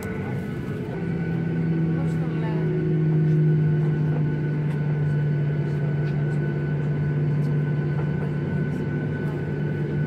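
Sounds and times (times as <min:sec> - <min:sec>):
jet engines humming with whine: 0:00.0 - 0:10.0.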